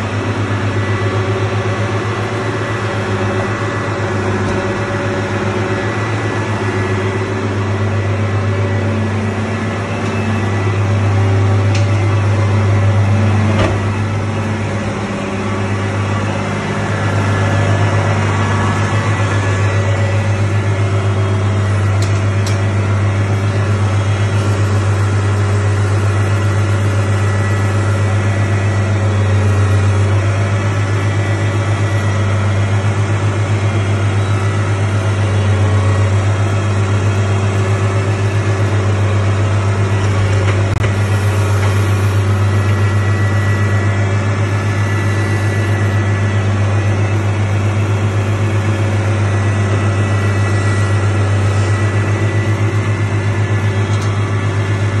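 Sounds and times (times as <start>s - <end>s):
mixer wagon engine and augers droning: 0.0s - 55.0s.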